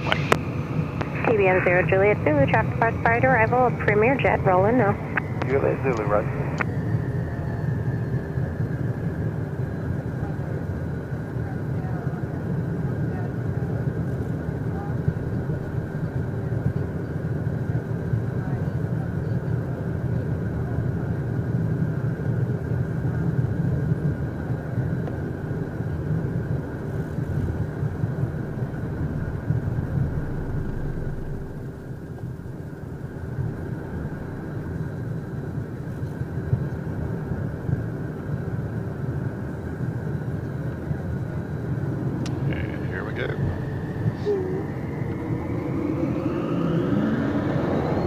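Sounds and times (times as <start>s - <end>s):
jet engines rumbling and whining: 0.0s - 48.0s.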